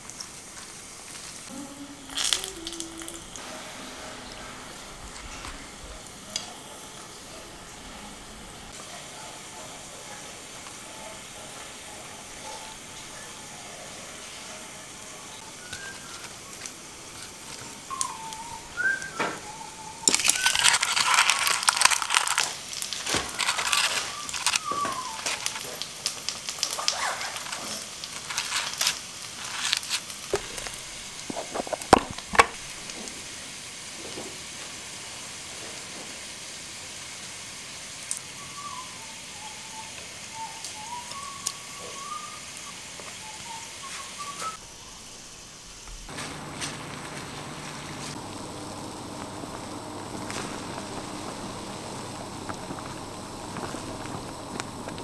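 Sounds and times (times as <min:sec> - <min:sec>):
oil sizzling in a pan: 0:00.0 - 0:55.0.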